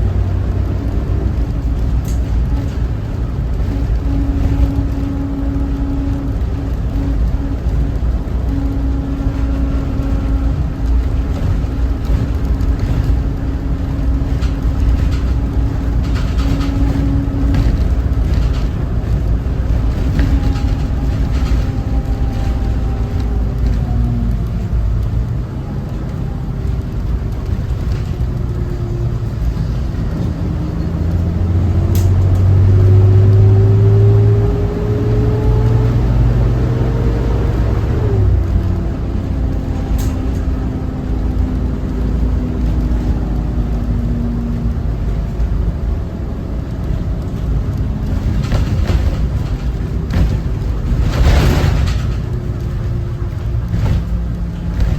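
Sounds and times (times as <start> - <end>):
bus diesel engine running: 0.0 - 54.9
road rumble: 0.0 - 54.9.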